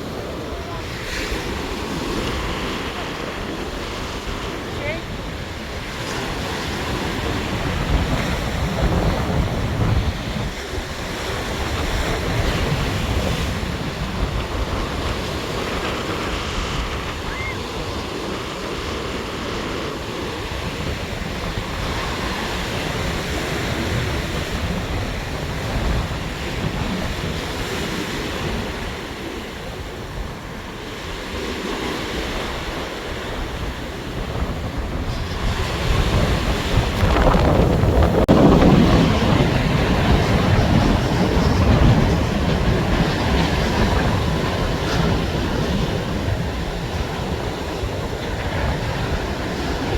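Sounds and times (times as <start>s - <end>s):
rough surf crashing: 0.0s - 49.9s
wind buffeting microphone: 0.0s - 49.9s.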